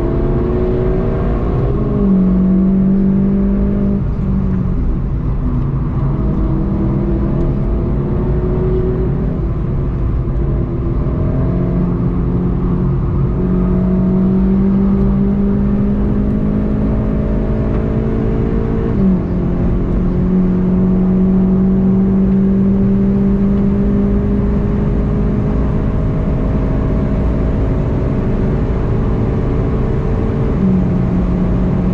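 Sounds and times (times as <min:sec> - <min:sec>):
car engine at full throttle: 0:00.0 - 0:31.9.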